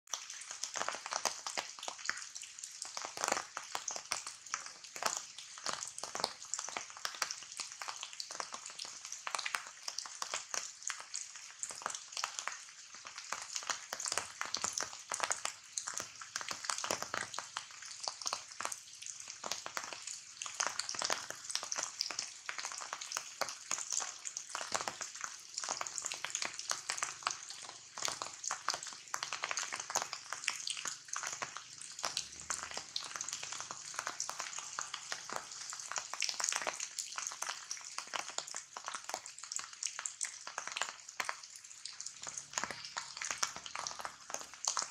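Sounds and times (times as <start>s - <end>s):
rain on foliage: 0.1s - 44.9s.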